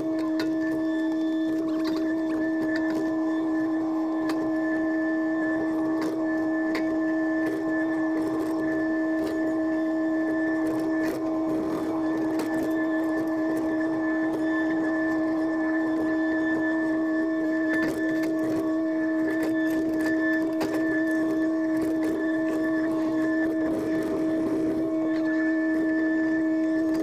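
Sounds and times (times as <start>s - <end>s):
excavator engine whine: 0.0s - 27.0s.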